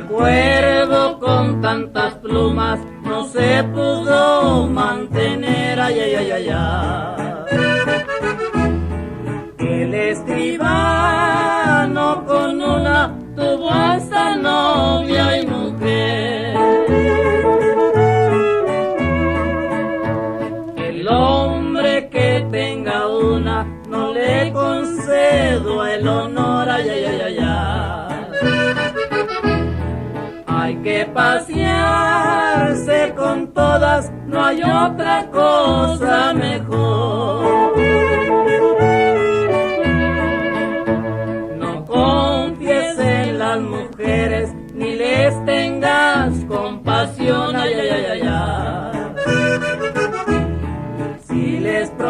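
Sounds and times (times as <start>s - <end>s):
accordion melody: 0.0s - 52.0s.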